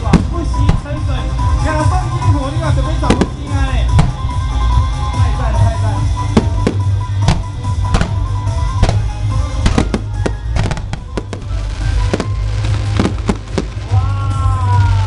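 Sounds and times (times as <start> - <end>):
fireworks banging: 0.0 - 15.0
loud music with heavy bass: 0.0 - 15.0.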